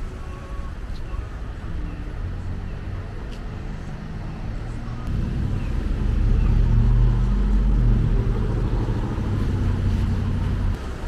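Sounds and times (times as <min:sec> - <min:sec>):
vehicle engine humming: 0:00.4 - 0:11.0.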